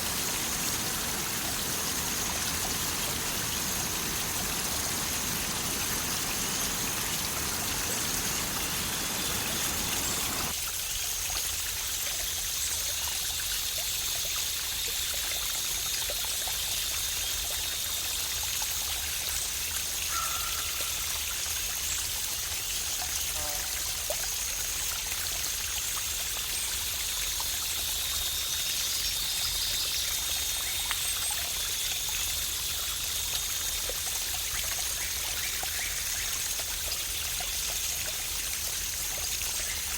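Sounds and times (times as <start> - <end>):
water rushing down a cascade: 0.0 - 39.9.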